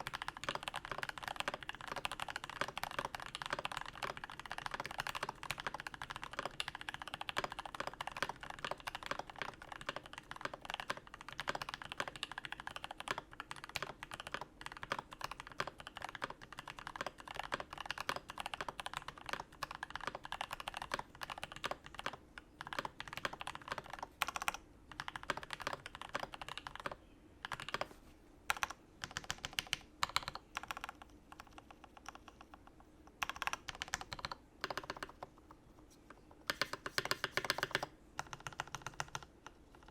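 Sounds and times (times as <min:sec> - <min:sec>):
mechanical keyboard typing: 0:00.0 - 0:35.6, 0:36.4 - 0:39.9.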